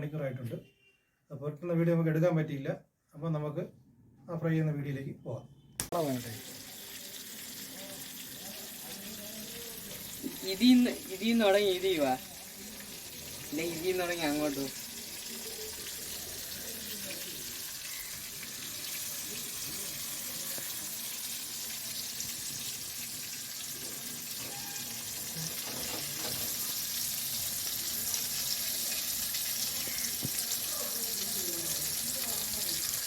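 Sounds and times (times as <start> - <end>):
fish sizzling in hot oil: 5.8 - 33.0.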